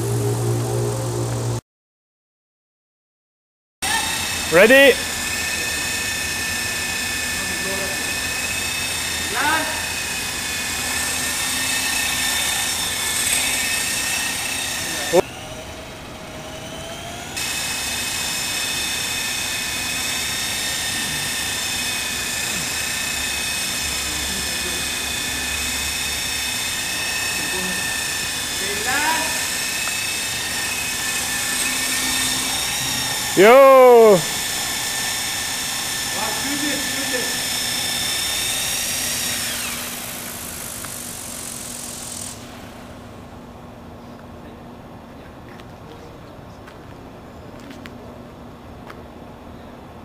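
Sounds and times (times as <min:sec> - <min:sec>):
small helicopter engine whine: 0:00.0 - 0:01.6, 0:03.8 - 0:50.0.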